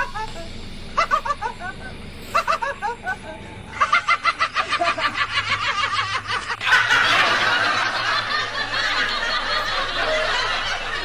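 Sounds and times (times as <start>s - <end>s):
rhythmic laughter: 0.0s - 11.0s
dense wash of laughter: 1.0s - 11.0s.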